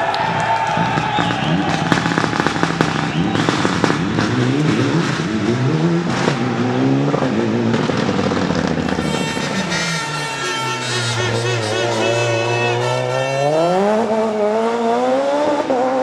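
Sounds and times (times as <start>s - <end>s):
exhaust pops and crackles: 0.0s - 14.1s
rally car engine revving: 0.0s - 16.0s.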